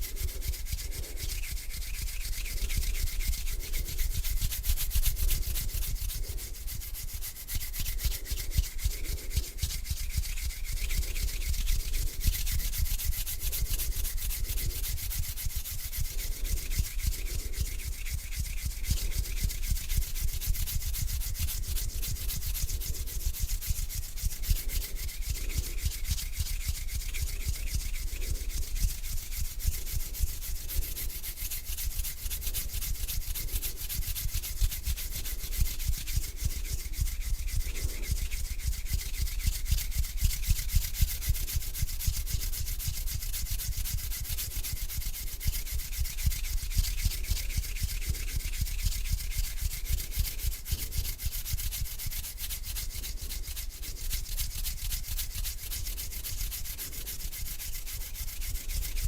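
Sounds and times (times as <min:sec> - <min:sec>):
hands rubbing together: 0:00.0 - 0:59.0.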